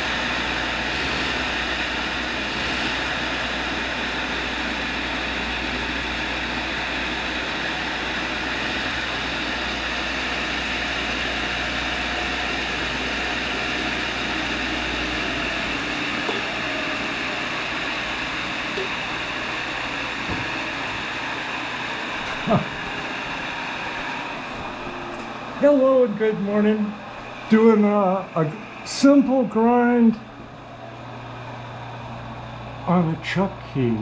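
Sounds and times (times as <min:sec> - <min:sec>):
grinder whirring: 0:00.0 - 0:28.9.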